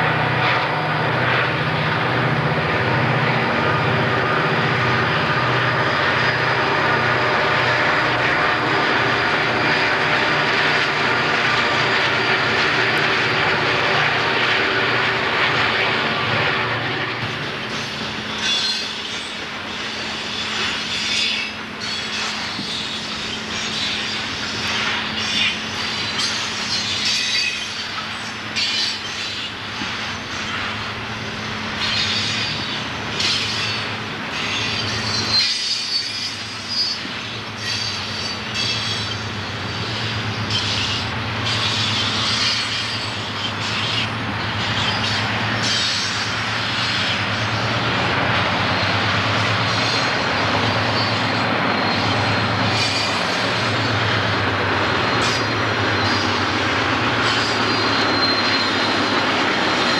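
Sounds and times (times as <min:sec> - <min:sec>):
diesel locomotives droning: 0:00.0 - 0:59.9
train wheels squealing on rail: 0:00.0 - 0:59.9.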